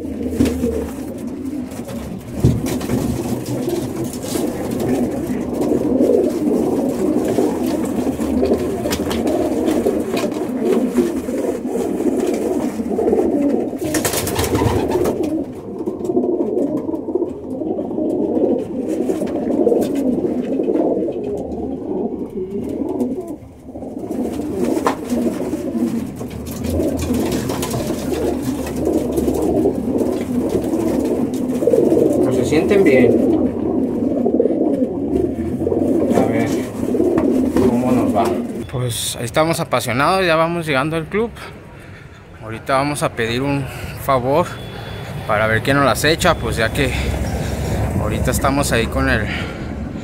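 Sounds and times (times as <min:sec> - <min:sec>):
pigeons cooing: 0:00.0 - 0:50.0.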